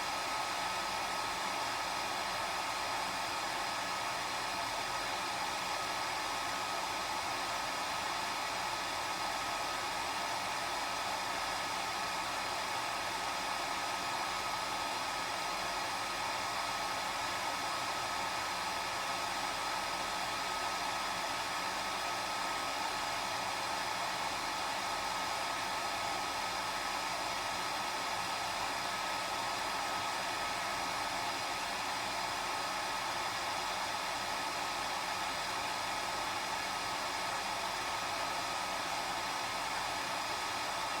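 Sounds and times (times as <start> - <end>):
hair dryer running: 0.0 - 41.0.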